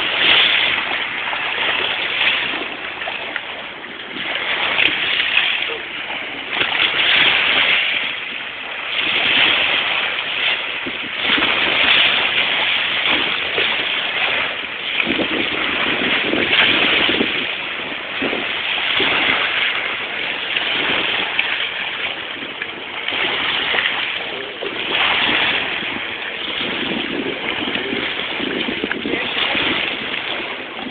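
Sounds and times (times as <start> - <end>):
dogs splashing in water: 0.0 - 30.9
waves washing onto gravel shore: 0.0 - 30.9.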